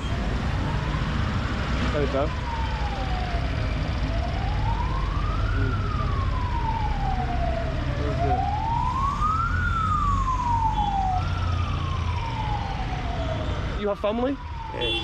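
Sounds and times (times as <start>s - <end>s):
emergency siren wailing: 0.0s - 15.0s
street traffic rumble: 0.0s - 15.0s.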